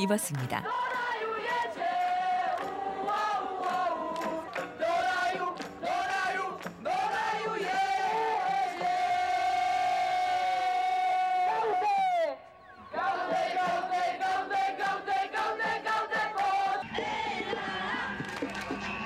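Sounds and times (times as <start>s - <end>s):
crowd singing in unison: 0.3s - 19.0s.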